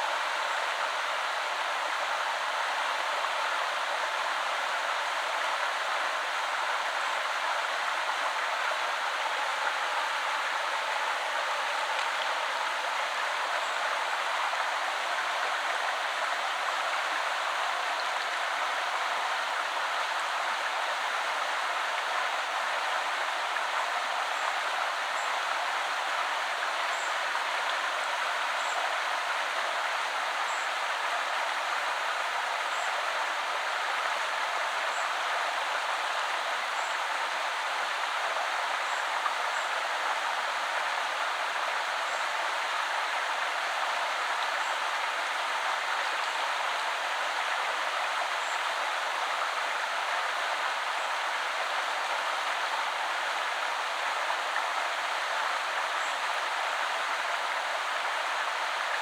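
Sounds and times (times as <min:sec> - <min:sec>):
river flowing: 0:00.0 - 0:59.0.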